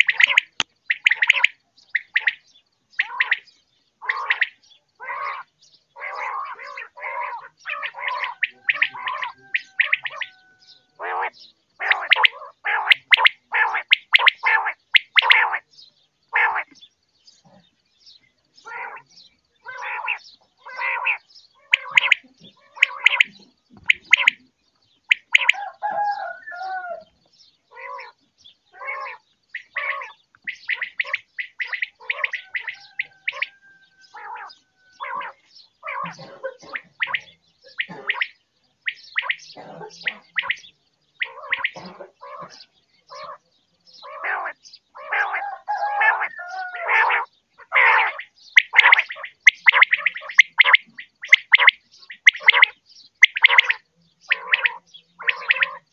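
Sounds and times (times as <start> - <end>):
wavering bird call: 0.0 - 2.4, 3.0 - 15.7, 16.3 - 16.8, 18.6 - 24.5, 25.1 - 27.1, 27.7 - 43.4, 44.0 - 55.9
quail calling rapid notes: 0.0 - 15.7, 16.3 - 16.8, 18.6 - 24.4, 25.1 - 27.0, 27.7 - 28.2, 28.8 - 43.4, 44.0 - 55.9.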